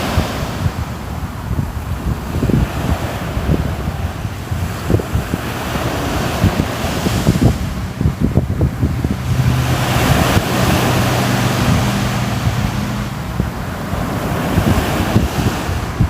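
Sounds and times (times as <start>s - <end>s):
sea waves washing onto shore: 0.0s - 16.0s
wind rumbling on microphone: 0.0s - 16.0s.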